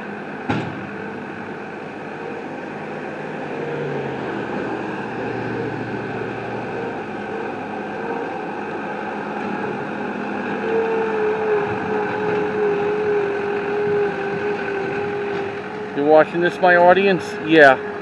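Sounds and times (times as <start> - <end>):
engine running: 0.0 - 18.0
steady whine: 0.0 - 18.0.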